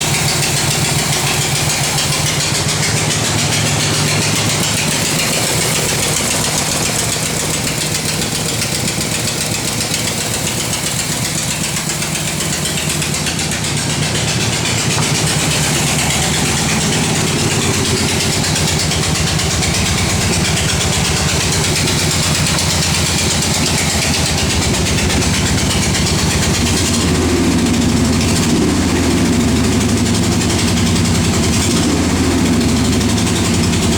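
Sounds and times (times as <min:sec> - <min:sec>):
car engine idling: 0:00.0 - 0:33.9
rapid regular engine ticking: 0:00.0 - 0:33.9.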